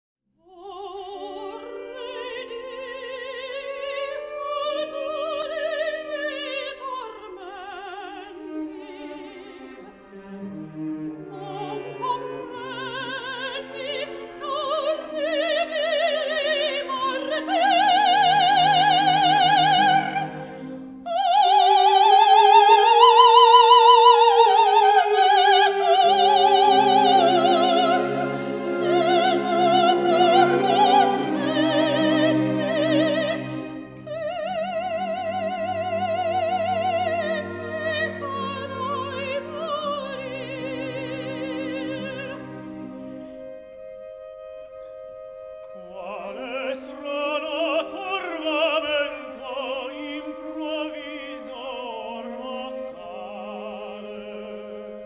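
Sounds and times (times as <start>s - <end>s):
soprano singing: 0.4s - 55.0s
orchestra playing: 1.0s - 55.0s.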